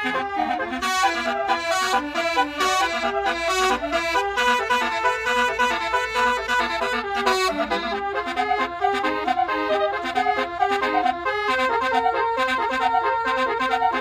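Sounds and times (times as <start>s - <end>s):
bus horn playing a fast tune: 0.0s - 14.0s.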